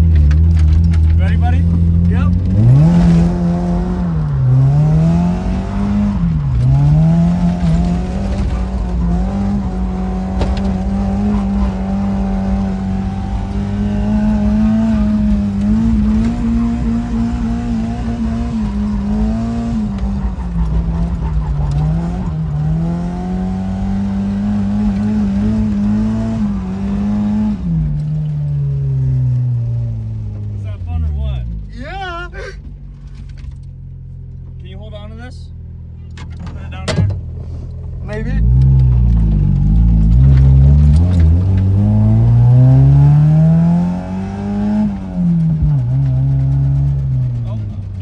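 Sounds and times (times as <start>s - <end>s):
car engine at high revs: 0.0s - 34.7s, 35.6s - 48.0s.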